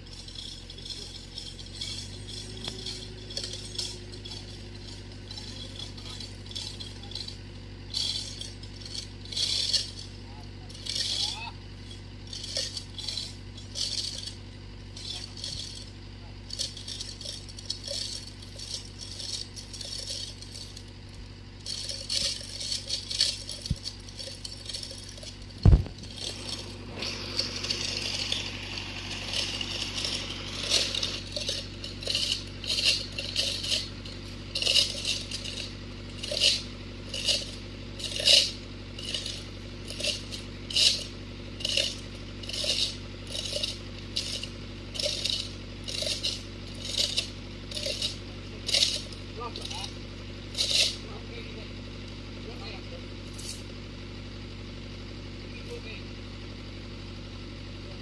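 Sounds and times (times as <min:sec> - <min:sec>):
metallic clinks and rattles: 0:00.0 - 0:54.9
low machine hum: 0:00.0 - 0:58.0.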